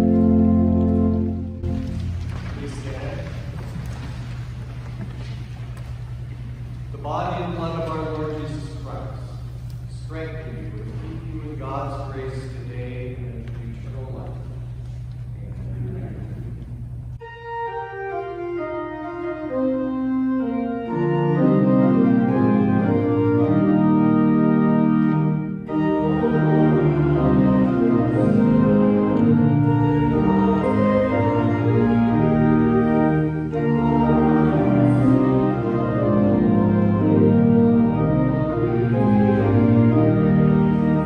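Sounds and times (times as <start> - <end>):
church organ playing: 0.0 - 41.0.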